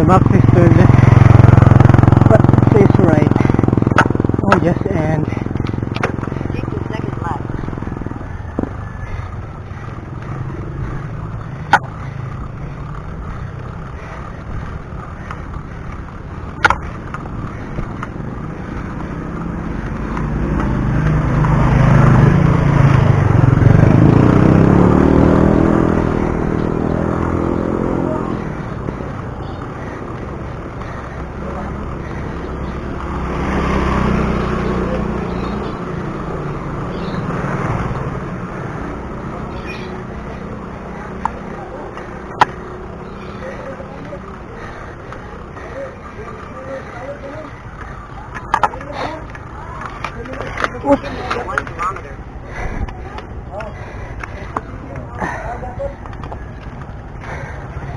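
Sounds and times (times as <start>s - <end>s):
motor vehicle passing: 0.0s - 57.9s
road rumble: 0.0s - 57.9s.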